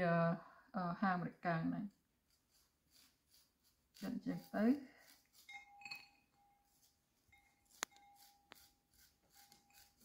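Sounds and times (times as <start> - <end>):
knife scraping corn: 1.8 - 10.0.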